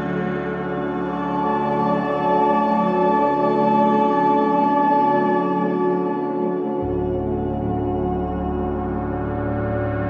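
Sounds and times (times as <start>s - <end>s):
ambient music of long held tones: 0.0s - 10.0s.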